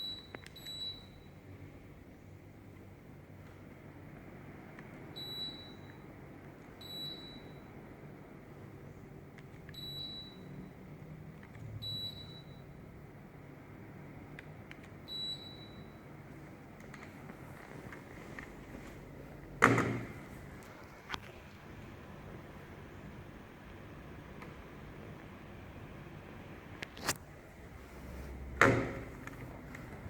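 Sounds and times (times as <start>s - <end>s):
low hum of air conditioner: 0.0s - 30.0s.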